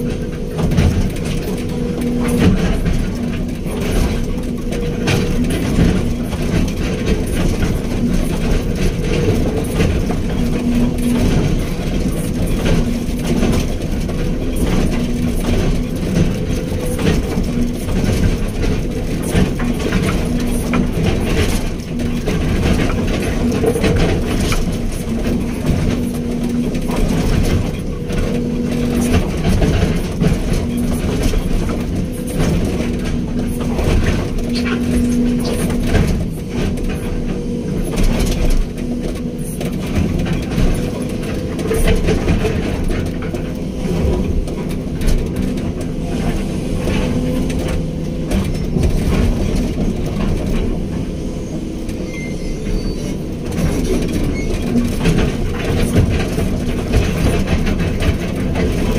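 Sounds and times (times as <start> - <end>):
diesel engine running: 0.0 - 58.9
hydraulic whine: 0.0 - 58.9
metal clanks and rattles: 0.0 - 58.9.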